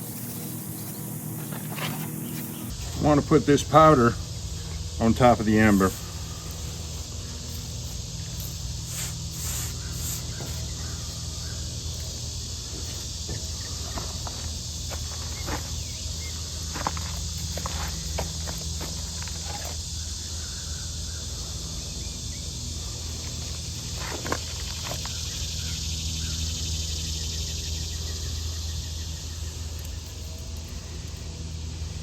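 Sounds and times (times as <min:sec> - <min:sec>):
insects chirping: 0:00.0 - 0:32.0
low steady hum: 0:00.0 - 0:32.0.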